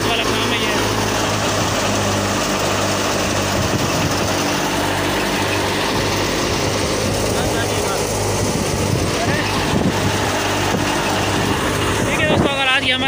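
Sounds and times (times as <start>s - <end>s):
thresher machine running: 0.0s - 13.0s.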